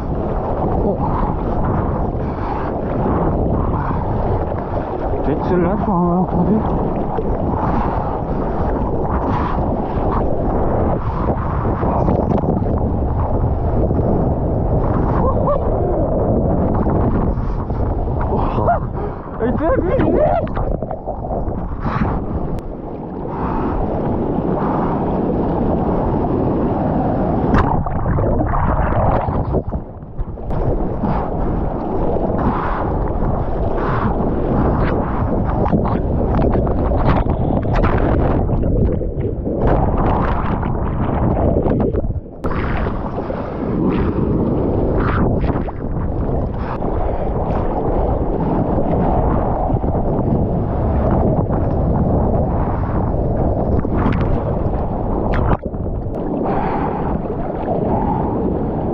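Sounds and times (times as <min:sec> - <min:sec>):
muffled underwater rush: 0:00.0 - 0:58.9
seawater rushing and splashing: 0:00.0 - 0:58.9
wind buffeting microphone: 0:00.0 - 0:58.9.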